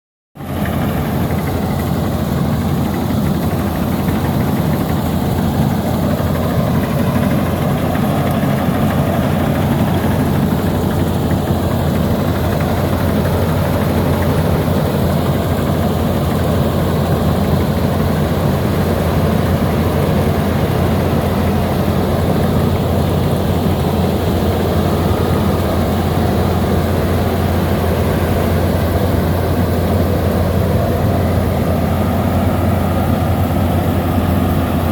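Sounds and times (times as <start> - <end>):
combine harvester engine hum: 0.4 - 34.9
machinery noise: 0.4 - 34.9.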